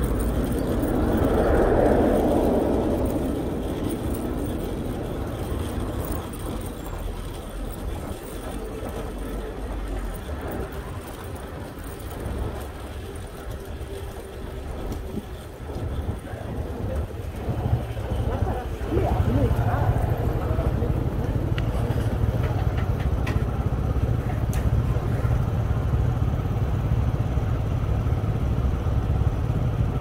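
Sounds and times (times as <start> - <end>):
city vehicle rumble and hiss: 0.0 - 30.0.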